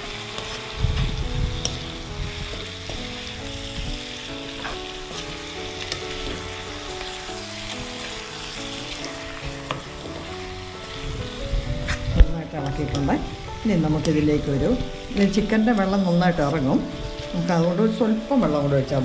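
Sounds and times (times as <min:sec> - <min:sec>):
chicken sizzling in hot oil: 0:00.0 - 0:19.0
soft background music: 0:00.0 - 0:19.0.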